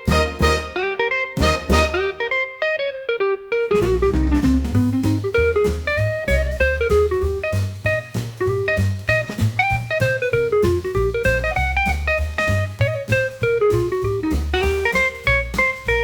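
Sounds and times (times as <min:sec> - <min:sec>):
bass and drum kit: 0:00.0 - 0:02.3, 0:03.8 - 0:16.0
lead guitar melody: 0:00.0 - 0:16.0.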